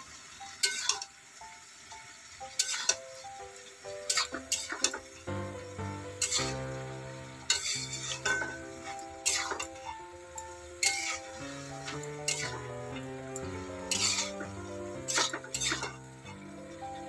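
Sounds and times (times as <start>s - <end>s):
metal spatula scraping vegetables: 0.0s - 1.2s, 2.4s - 17.0s
background music: 0.4s - 17.0s.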